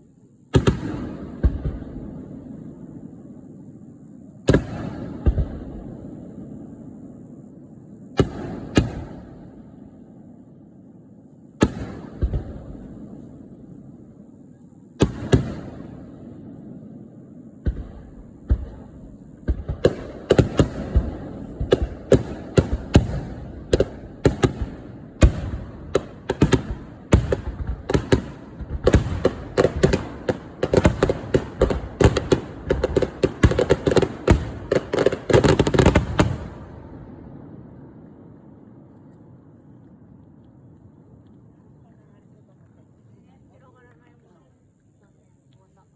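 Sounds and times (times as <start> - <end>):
fireworks bursting: 0.0 - 45.7.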